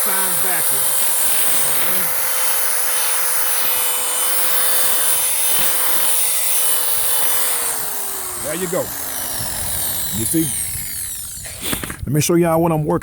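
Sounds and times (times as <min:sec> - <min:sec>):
electric drill motor whining: 0:00.0 - 0:12.1.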